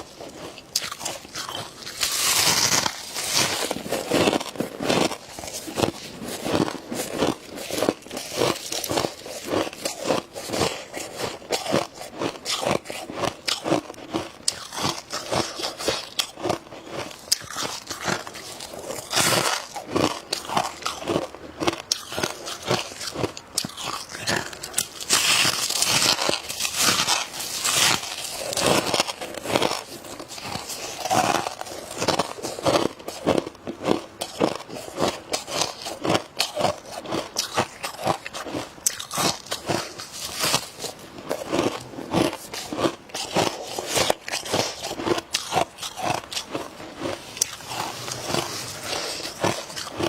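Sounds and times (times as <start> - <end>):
frost crunching being chewed: 0.0 - 50.0.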